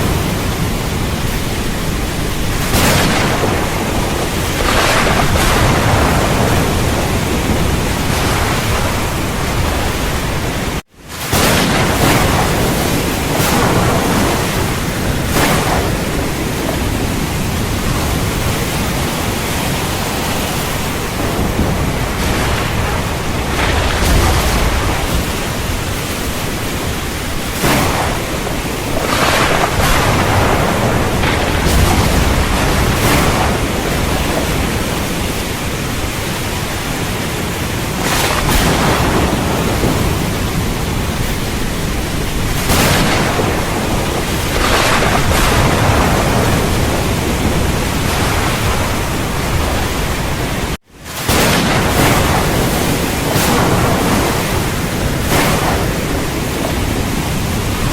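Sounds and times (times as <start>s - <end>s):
steady rain hissing: 0.0s - 57.9s
thunder rumbling: 0.0s - 57.9s.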